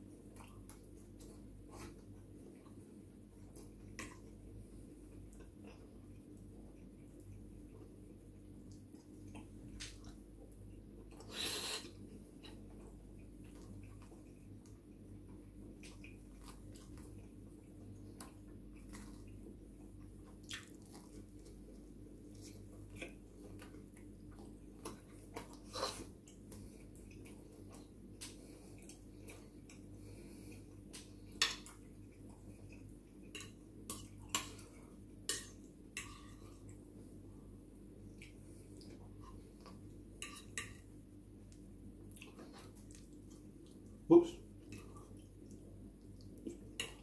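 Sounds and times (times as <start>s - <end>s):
low steady hum: 0.0s - 47.0s
quiet chewing: 0.0s - 47.0s.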